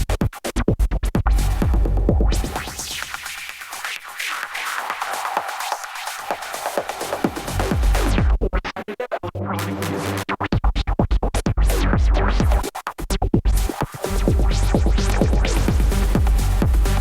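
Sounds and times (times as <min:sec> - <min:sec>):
electronic dance music: 0:01.3 - 0:17.0.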